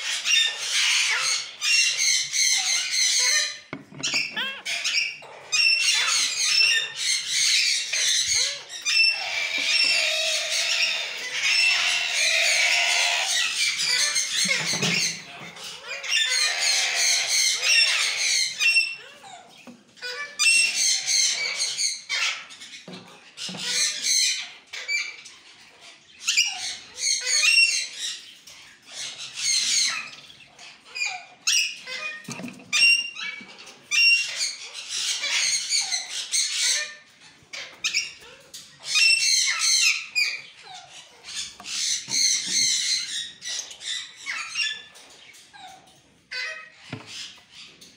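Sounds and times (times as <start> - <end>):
parakeets screeching: 0.0 - 47.9.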